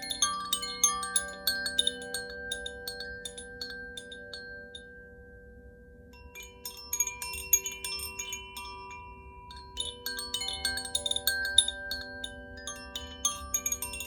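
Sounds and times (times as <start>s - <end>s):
wind chime ringing bell-like tones: 0.0s - 5.6s, 6.2s - 14.0s.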